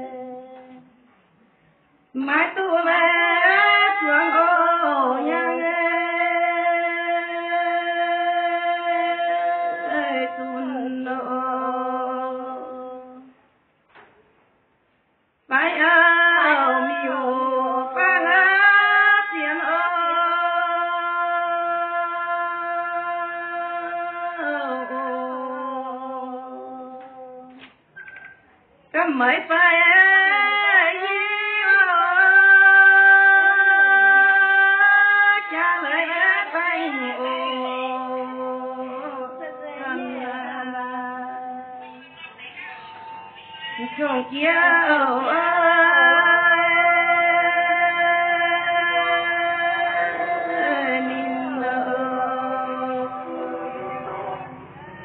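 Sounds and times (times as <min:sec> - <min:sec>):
women singing long held notes: 0:00.0 - 0:01.0, 0:02.2 - 0:13.4, 0:15.5 - 0:27.6, 0:29.0 - 0:41.8, 0:43.9 - 0:54.8.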